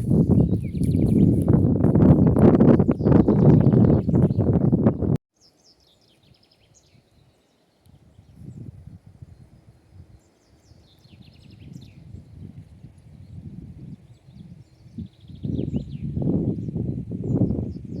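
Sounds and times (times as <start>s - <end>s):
low wind rumble: 0.0s - 5.2s, 7.9s - 18.0s
wind buffeting microphone: 0.0s - 5.2s, 7.9s - 18.0s
songbird chirping: 0.0s - 17.9s.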